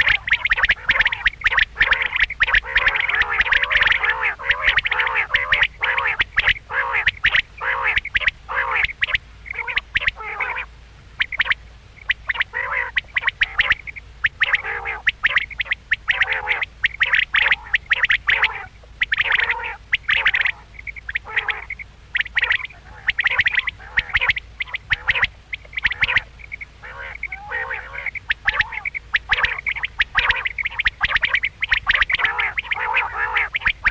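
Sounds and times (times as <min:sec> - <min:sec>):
quail calling: 0:00.0 - 0:33.9.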